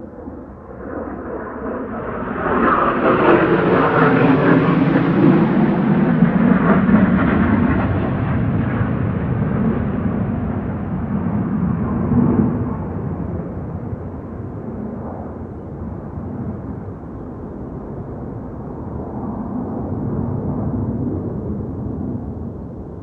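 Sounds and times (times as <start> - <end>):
fighter jet flying over: 0.0 - 23.0.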